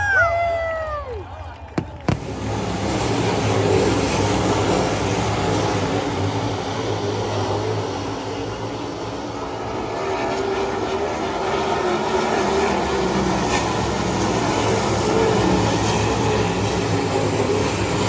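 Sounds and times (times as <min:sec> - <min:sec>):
racing car engines droning: 0:00.0 - 0:18.0.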